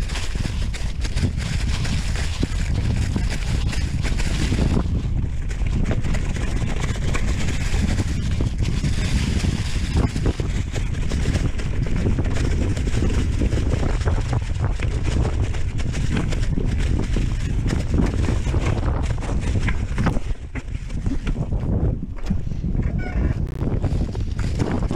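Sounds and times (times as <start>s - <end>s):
tyres crunching on leaves and rocks: 0.0s - 21.5s
bike knocks and rattles: 0.0s - 24.9s
wind buffeting microphone: 0.0s - 24.9s.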